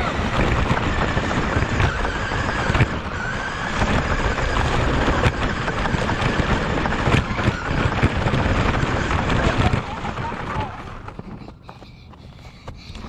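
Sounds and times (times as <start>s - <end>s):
faint motor whine: 0.0s - 13.0s
tyres and chassis rumbling: 0.0s - 13.0s
wind on microphone: 0.0s - 13.0s.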